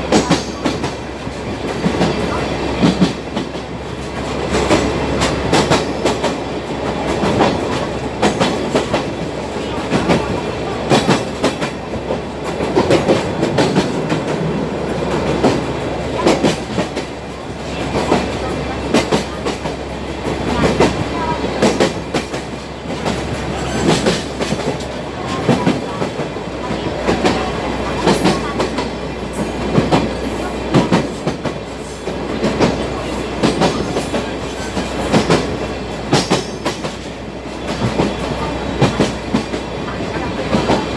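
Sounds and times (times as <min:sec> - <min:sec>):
train carriage rumbling: 0:00.0 - 0:40.9
wheels clacking over rails: 0:00.0 - 0:40.9.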